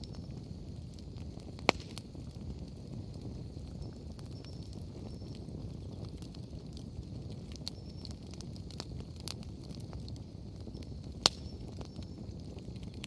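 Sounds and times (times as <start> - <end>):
firewood crackling: 0.0 - 13.0
low rush of flame: 0.0 - 13.0.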